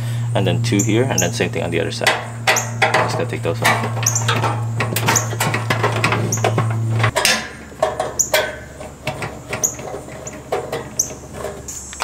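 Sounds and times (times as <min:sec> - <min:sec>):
steady low hum: 0:00.0 - 0:12.0
screws squeaking: 0:02.1 - 0:12.0.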